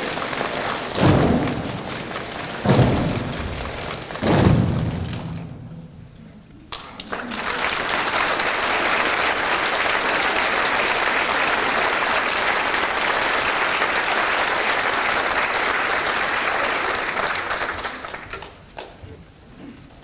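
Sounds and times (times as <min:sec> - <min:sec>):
audience applauding: 0:00.0 - 0:04.4, 0:06.7 - 0:19.0.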